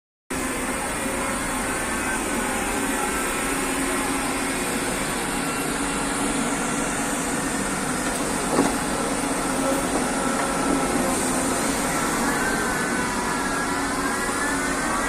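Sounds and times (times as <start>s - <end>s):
crane machine engine droning: 0.3s - 15.0s.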